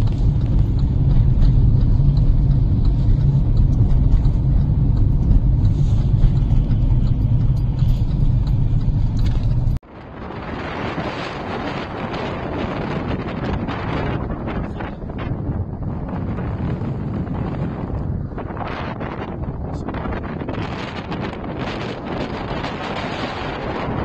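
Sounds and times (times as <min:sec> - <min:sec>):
car driving rumble inside cabin: 0:00.0 - 0:10.3, 0:11.4 - 0:24.0
wind blowing across microphone: 0:00.0 - 0:24.0.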